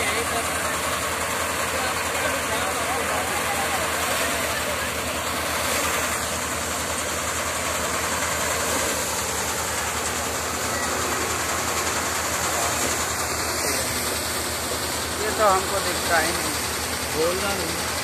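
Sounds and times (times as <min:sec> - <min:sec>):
thresher running: 0:00.0 - 0:18.0.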